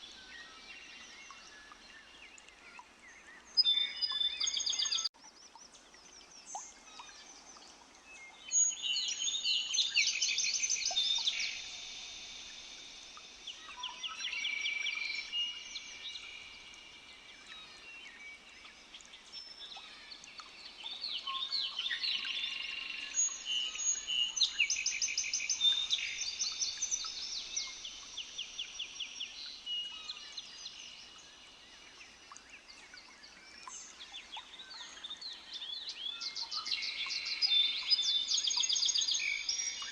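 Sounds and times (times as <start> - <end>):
birds singing in trills: 0.0 - 39.9.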